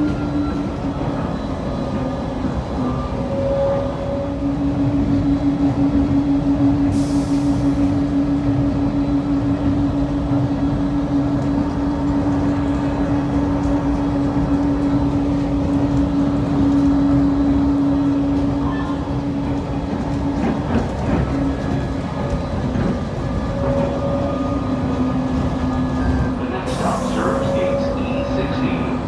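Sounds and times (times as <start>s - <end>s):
train drive hum: 0.0s - 29.0s
train rolling rumble: 0.0s - 29.0s.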